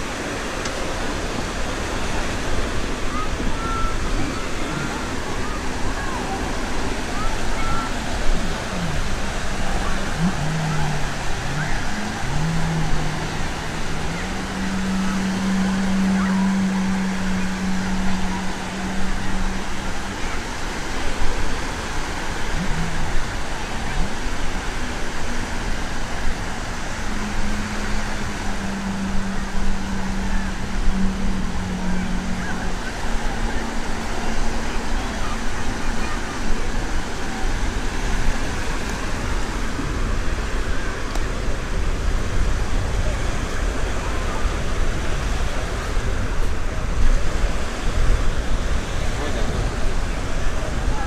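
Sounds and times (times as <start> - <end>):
low motor hum: 0.0 - 51.0
outdoor background noise: 0.0 - 51.0
sea waves washing: 0.0 - 51.0
wind rumbling on microphone: 0.0 - 51.0.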